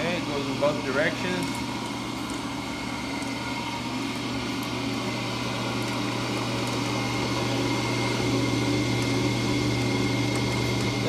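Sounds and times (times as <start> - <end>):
brake lathe motor humming: 0.0 - 11.0.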